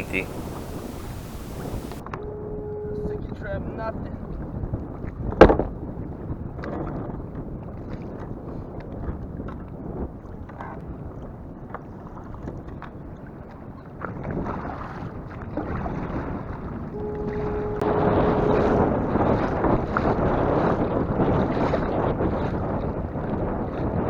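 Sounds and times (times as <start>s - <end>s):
strong wind buffeting microphone: 0.0s - 12.6s, 14.0s - 24.0s.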